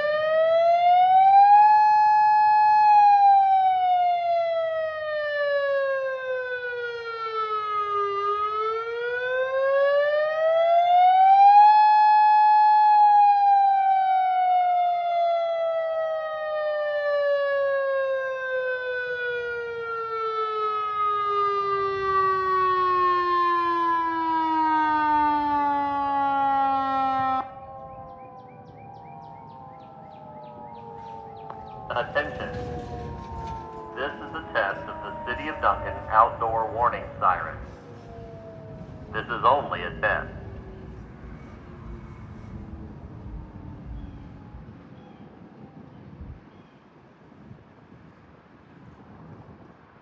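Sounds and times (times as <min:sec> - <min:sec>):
warning siren wailing: 0:00.0 - 0:46.5.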